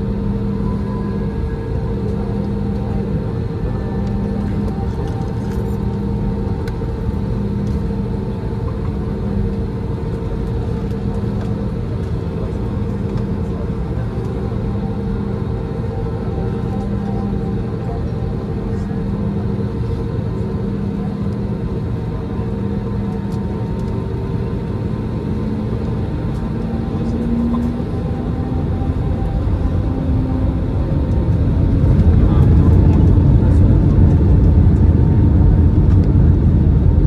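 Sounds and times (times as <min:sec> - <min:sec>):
jet engines humming: 0:00.0 - 0:37.0.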